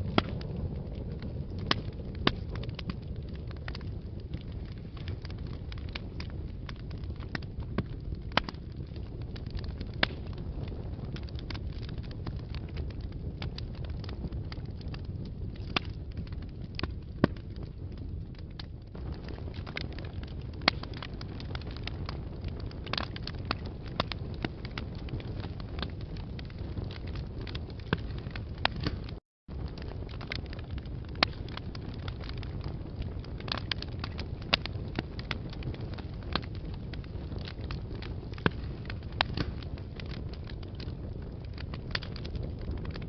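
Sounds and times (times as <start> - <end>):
fire burning in fireplace: 0.0 - 43.0
fire crackling and popping: 0.0 - 43.0.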